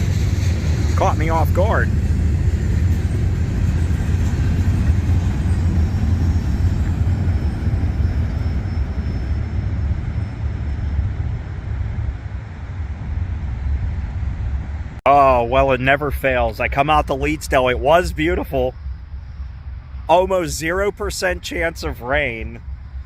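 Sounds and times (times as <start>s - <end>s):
freight train rumbling by: 0.0s - 23.0s.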